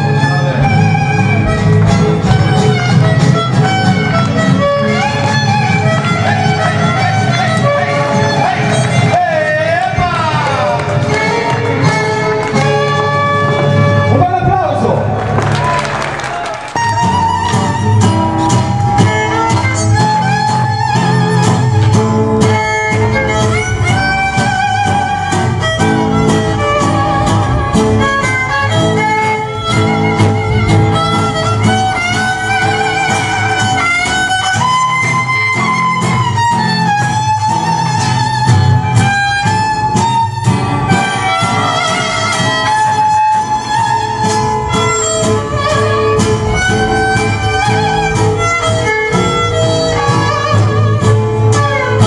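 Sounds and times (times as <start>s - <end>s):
violin melody with vibrato: 0.0s - 14.2s, 16.8s - 52.0s
bass: 0.0s - 52.0s
strummed guitar: 0.0s - 52.0s.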